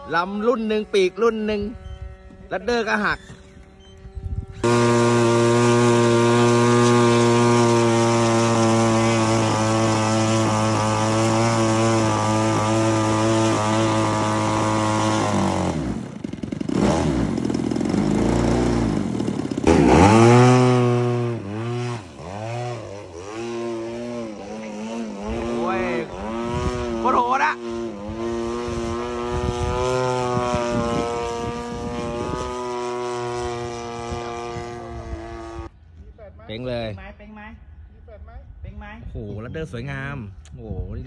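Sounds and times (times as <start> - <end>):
model airplane engine: 0.0 - 35.8.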